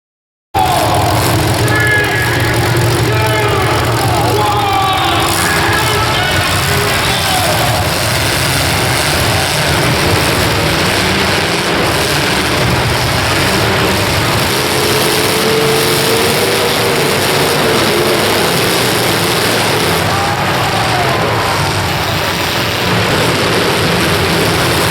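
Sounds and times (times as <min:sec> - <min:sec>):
car engines running together: 0:00.6 - 0:24.9
engine note wavering: 0:00.6 - 0:24.9.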